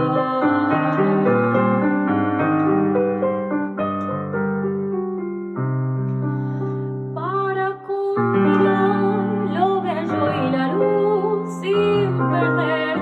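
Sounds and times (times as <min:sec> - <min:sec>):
solo piano playing chords: 0:00.0 - 0:13.0.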